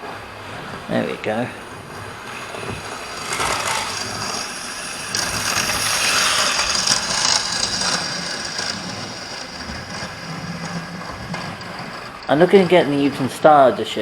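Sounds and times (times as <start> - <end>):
model train rattling whirr: 0.0 - 14.0.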